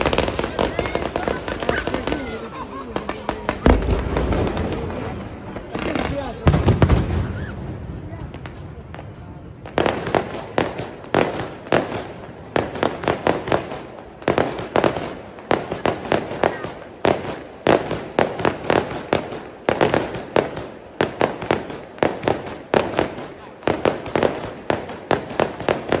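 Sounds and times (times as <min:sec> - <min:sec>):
fireworks bursting with sharp bangs: 0:00.0 - 0:26.0.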